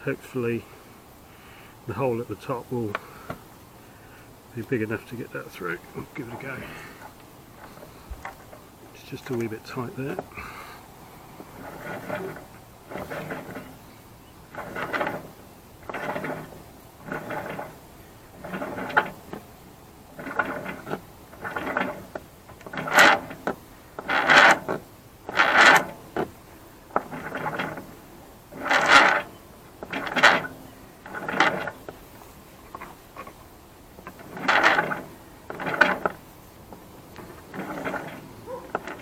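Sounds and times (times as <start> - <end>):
rope hauled through mast: 5.4 - 39.0.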